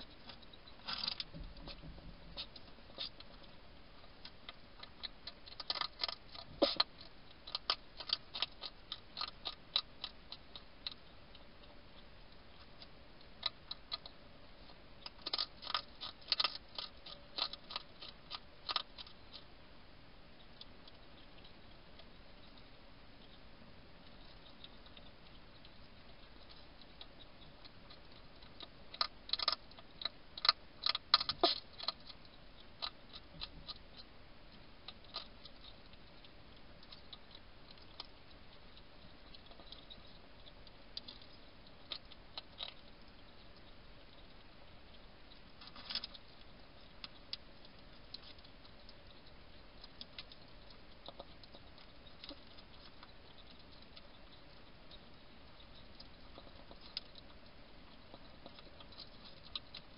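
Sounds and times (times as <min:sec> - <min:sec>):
hedgehog crunching food: 0:00.0 - 0:59.9.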